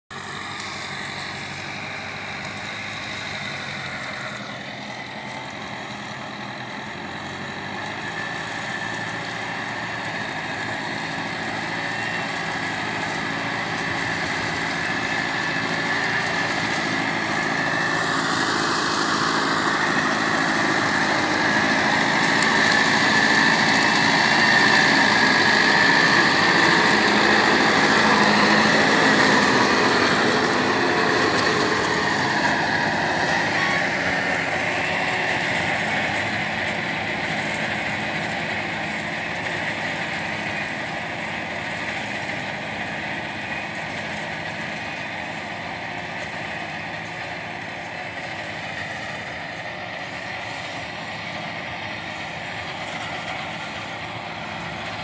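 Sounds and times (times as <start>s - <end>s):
tractor engine under load: 0.1s - 55.0s.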